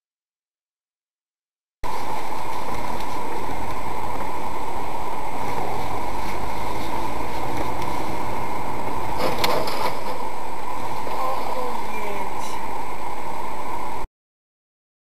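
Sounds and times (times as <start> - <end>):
car engine: 1.8 - 14.0
road noise inside moving car: 1.9 - 14.0.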